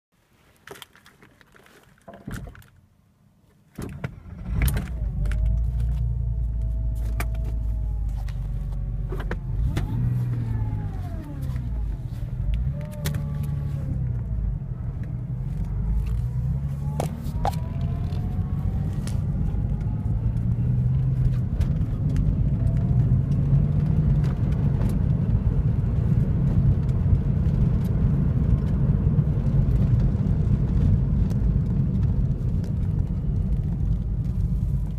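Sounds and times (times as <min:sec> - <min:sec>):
car engine starting and idling: 0:03.7 - 0:34.9.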